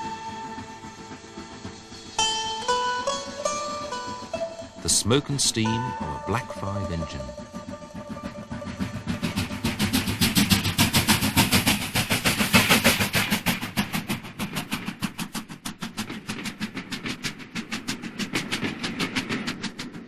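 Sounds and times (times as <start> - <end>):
steam locomotive exhaust beating: 0.0 - 20.0.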